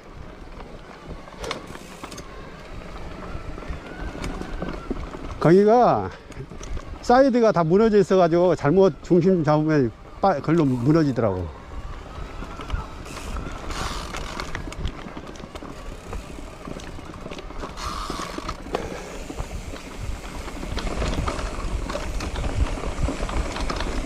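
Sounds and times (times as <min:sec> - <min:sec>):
bike rattling and clicking: 0:00.0 - 0:24.0
tyres rolling over dirt: 0:00.0 - 0:24.0
wind buffeting microphone: 0:01.1 - 0:24.0.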